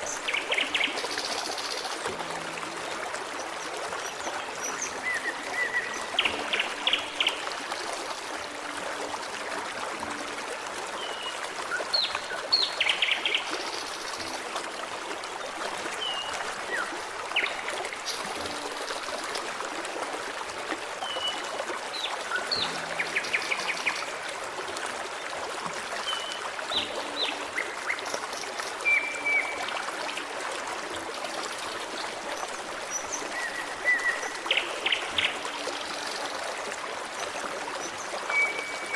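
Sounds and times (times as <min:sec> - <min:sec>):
forest stream babbling: 0:00.0 - 0:38.9.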